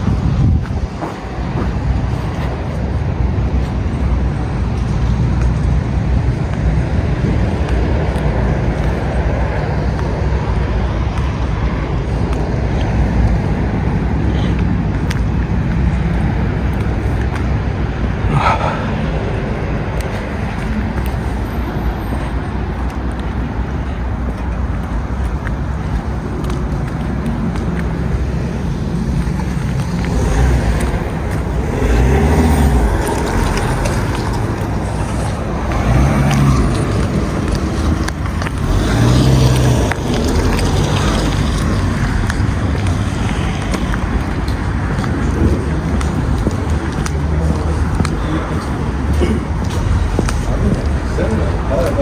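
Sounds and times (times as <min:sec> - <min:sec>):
motor vehicles rumbling: 0:00.0 - 0:52.0.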